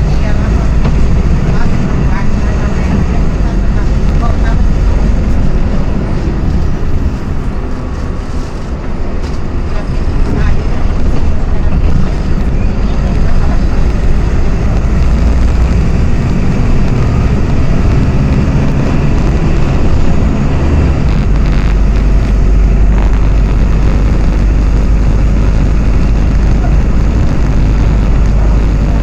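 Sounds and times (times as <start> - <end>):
diesel bus engine running: 0.0 - 29.0.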